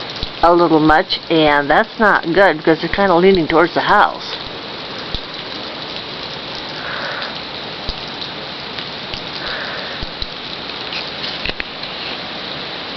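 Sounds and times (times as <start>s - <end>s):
freezing rain pattering: 0.0s - 12.9s.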